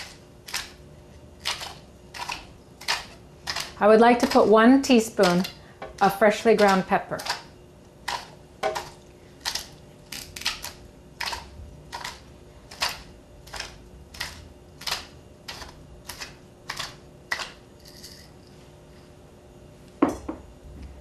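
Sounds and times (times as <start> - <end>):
pepper mill grinding: 1.4 - 18.5.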